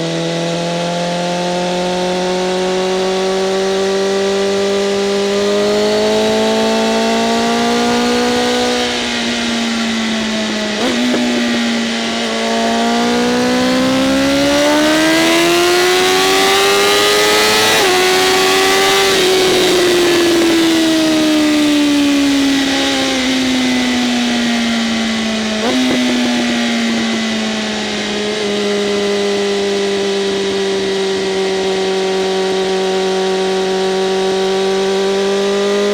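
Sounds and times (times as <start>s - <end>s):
sport-bike engine revving: 0.1s - 35.9s.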